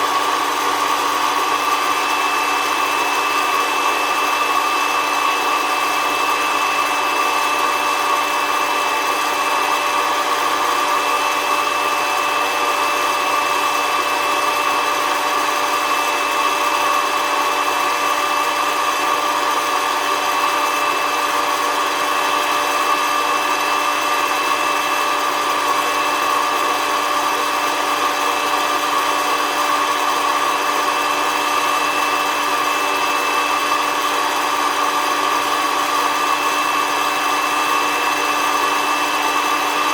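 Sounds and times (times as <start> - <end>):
coffee roaster fan whirring: 0.0 - 39.9.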